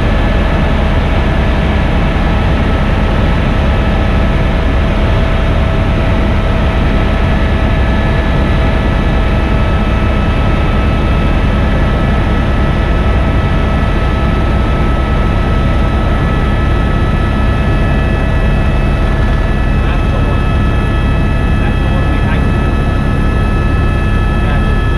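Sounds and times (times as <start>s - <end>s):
helicopter rotor and engine noise: 0.0s - 24.9s
steady high whine: 0.0s - 24.9s.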